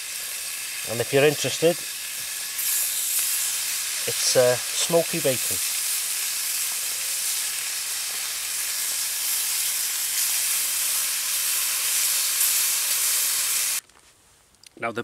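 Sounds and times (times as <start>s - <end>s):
bacon sizzling in frying pan: 0.0s - 13.8s.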